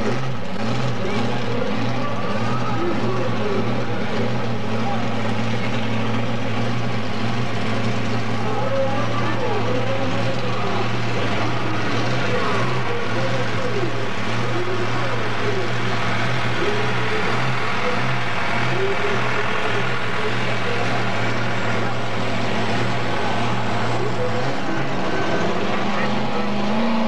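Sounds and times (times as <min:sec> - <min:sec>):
tractor engine idling: 0:00.0 - 0:27.0
voices: 0:00.0 - 0:27.0.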